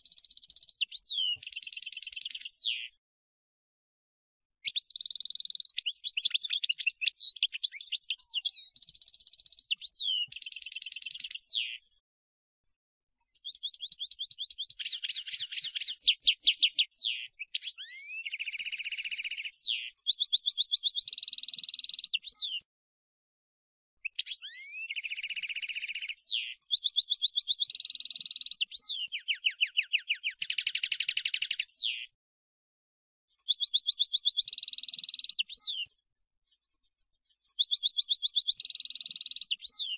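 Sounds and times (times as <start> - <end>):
goldfinch twittering song: 0.0 - 3.0, 4.6 - 12.0, 13.2 - 22.6, 24.0 - 32.1, 33.4 - 36.0, 37.4 - 39.9.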